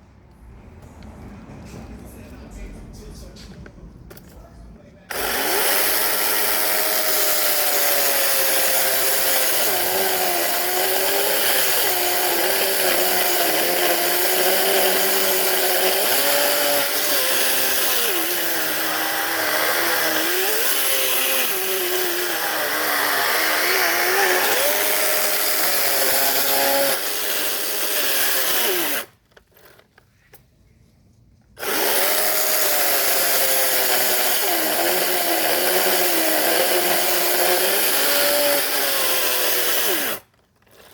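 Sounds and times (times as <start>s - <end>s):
motorised saw cutting branches: 5.1s - 30.0s, 31.6s - 40.9s.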